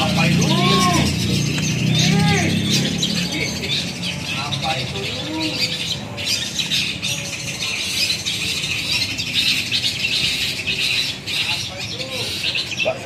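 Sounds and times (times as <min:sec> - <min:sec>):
many caged birds singing: 0:00.0 - 0:13.0.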